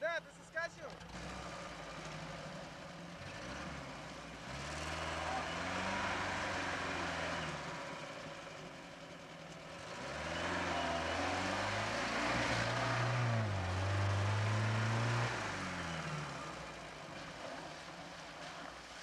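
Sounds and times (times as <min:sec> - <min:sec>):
engine revving under load: 0:00.9 - 0:19.0.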